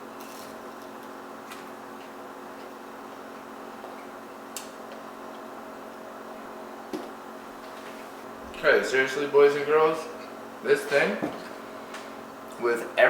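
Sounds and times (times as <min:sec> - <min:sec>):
room hum with fixed tones: 0:00.0 - 0:13.0.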